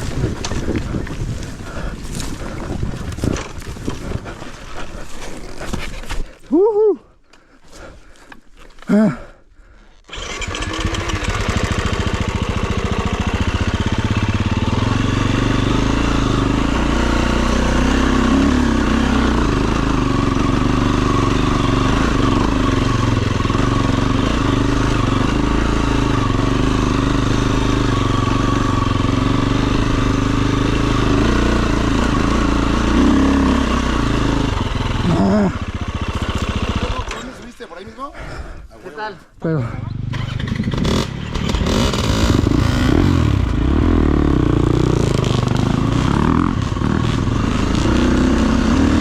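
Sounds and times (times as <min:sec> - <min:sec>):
dirt bike engine running: 0:00.0 - 0:06.2, 0:10.1 - 0:37.6, 0:39.5 - 0:49.0.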